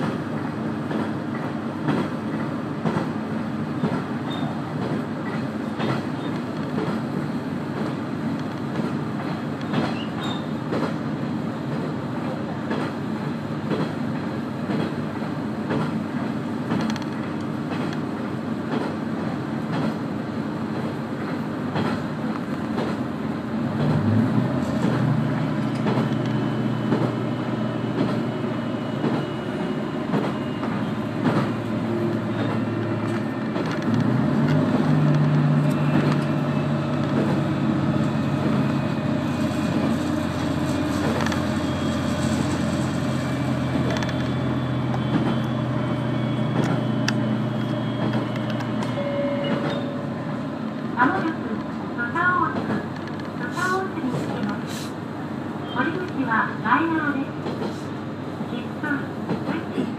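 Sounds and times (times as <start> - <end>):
railcar diesel engine hum: 0.0 - 59.9.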